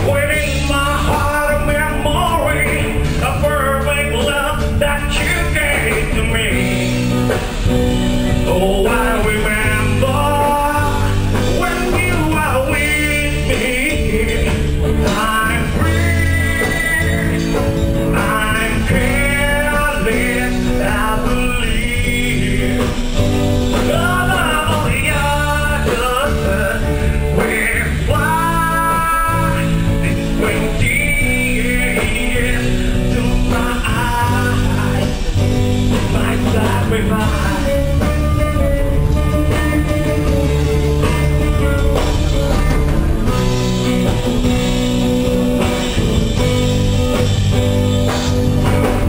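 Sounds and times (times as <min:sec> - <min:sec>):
bass line: 0:00.0 - 0:49.0
live band playing: 0:00.0 - 0:49.0
person singing: 0:00.0 - 0:49.0.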